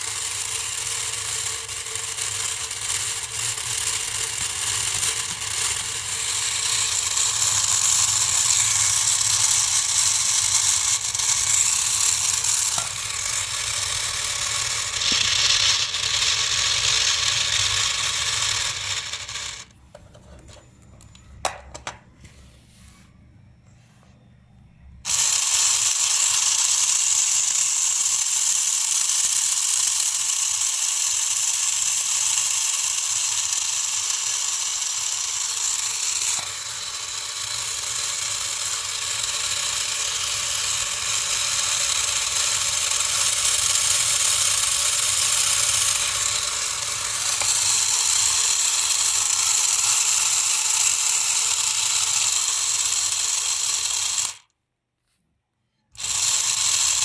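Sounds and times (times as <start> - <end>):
small electric motor whirring: 0.0 - 19.7, 25.1 - 54.5, 55.9 - 57.0.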